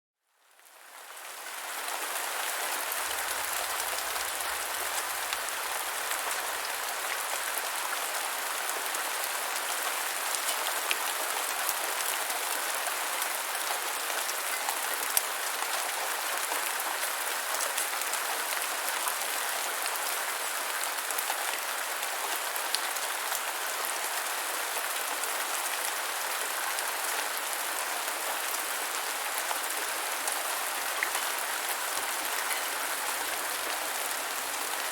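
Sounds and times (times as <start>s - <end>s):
gentle rain hiss: 0.3s - 34.9s.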